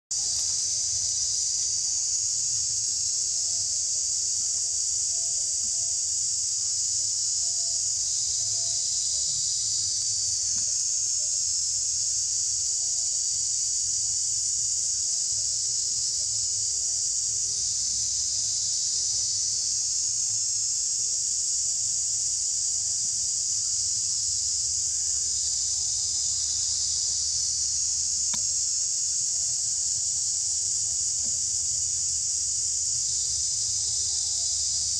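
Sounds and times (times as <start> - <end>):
insect chorus drone: 0.1 - 34.9.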